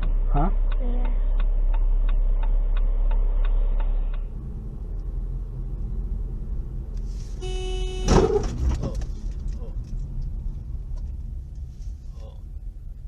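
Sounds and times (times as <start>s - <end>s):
car rumble: 0.0s - 13.0s
road noise: 0.0s - 13.0s.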